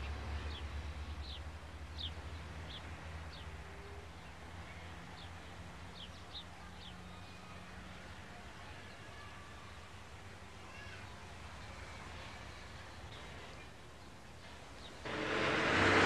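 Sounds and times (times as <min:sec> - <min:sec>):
small birds chirping: 0:00.0 - 0:15.3.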